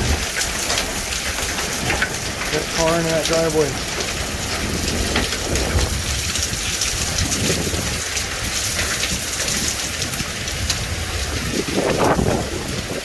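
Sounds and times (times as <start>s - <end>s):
hailstones striking: 0.0s - 13.0s
heavy rain pelting down: 0.0s - 13.0s
wind rumble on microphone: 0.0s - 13.0s.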